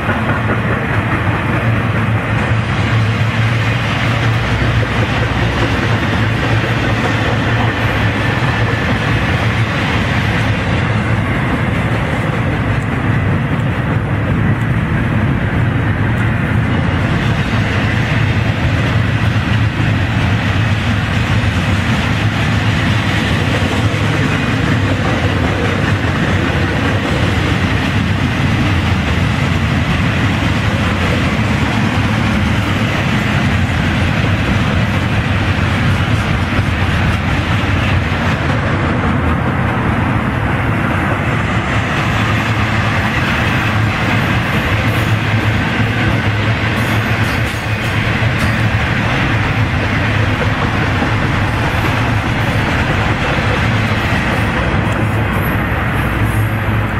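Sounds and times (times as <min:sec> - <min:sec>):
steel train wheels on rails: 0:00.0 - 0:56.9.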